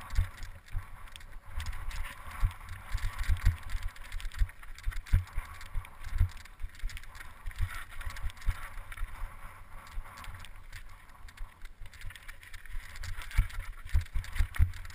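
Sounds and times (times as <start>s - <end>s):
tyres crunching over loose stones: 0.0s - 9.2s, 9.9s - 14.9s
bike rattling clicks: 0.0s - 14.9s.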